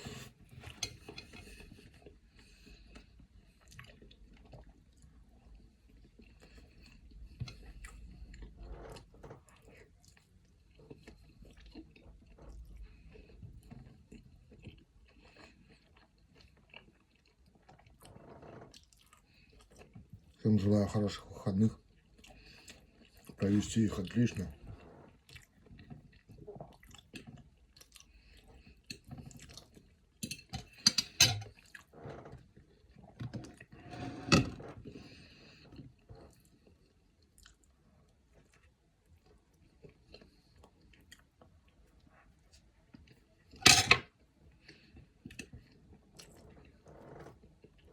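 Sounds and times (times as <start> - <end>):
person chewing food: 0.0 - 20.4, 21.9 - 23.4, 24.6 - 33.8, 34.6 - 47.9.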